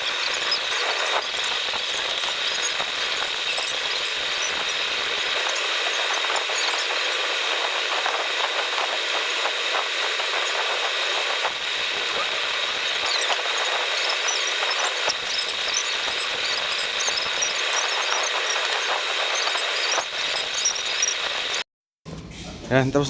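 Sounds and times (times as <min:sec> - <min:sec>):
small power tool whining: 0:00.0 - 0:21.6.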